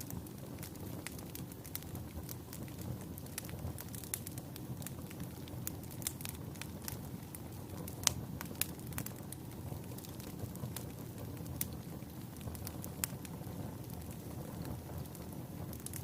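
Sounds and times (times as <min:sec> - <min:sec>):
low rumble of flames: 0:00.0 - 0:16.0
wood fire crackles and pops: 0:00.0 - 0:16.0.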